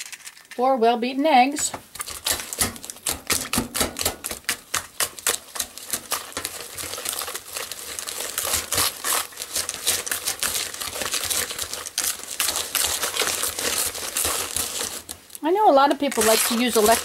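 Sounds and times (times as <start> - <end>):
whisk beating in plastic bowl: 2.0 - 17.0.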